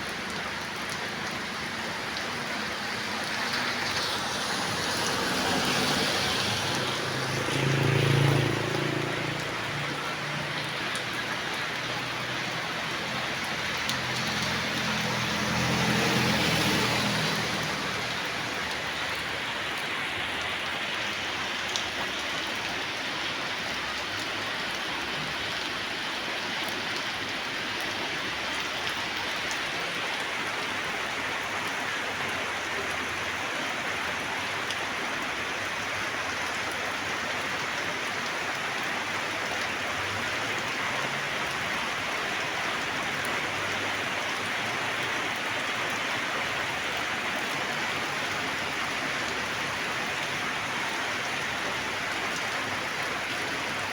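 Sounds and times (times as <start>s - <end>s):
rain drops ticking: 0.0s - 53.9s
steady rain falling: 0.0s - 53.9s.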